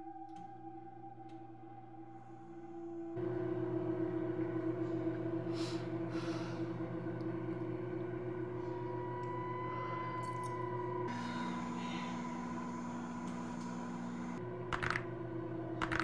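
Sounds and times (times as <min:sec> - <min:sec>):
ambient suspense drone music: 0:00.0 - 0:16.0.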